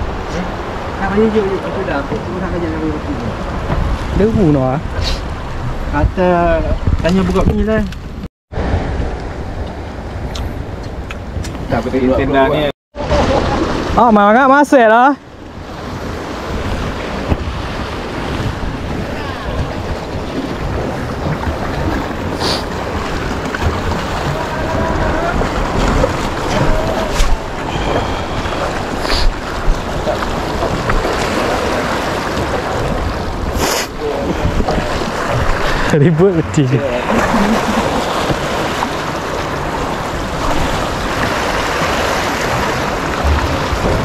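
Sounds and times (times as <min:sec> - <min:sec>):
wind buffeting microphone: 0:00.0 - 0:14.0, 0:15.3 - 0:44.0
sea waves on rocky shore: 0:00.0 - 0:44.0.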